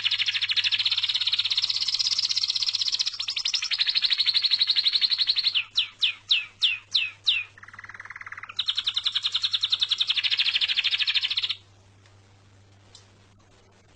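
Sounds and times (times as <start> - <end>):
songbird singing: 0.0 - 11.6.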